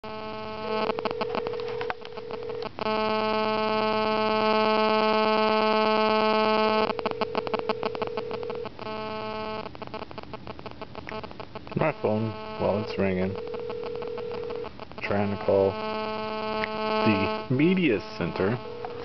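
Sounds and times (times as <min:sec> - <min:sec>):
buzzing phone interference static: 0:00.0 - 0:19.0.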